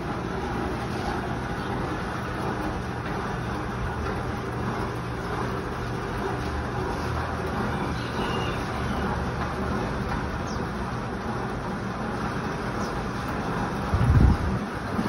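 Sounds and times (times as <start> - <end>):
drum fan running: 0.0 - 15.0.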